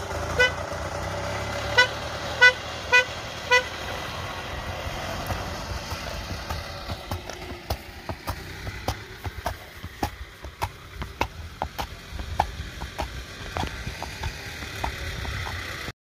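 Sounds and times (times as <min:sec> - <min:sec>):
horse hooves on asphalt: 0:01.8 - 0:15.9.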